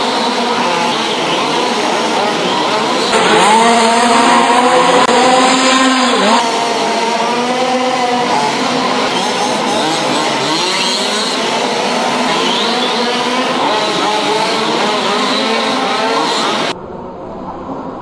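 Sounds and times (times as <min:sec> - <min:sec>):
rc car engines revving: 0:00.0 - 0:16.8.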